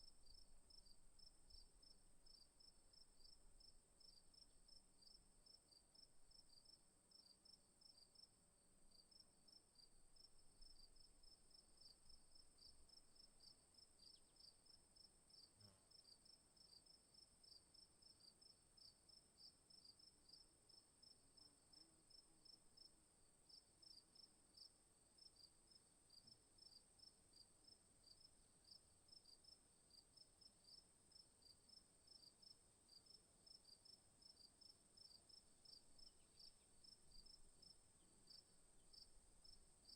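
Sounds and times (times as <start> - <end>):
faint insect chorus: 0.0 - 39.9.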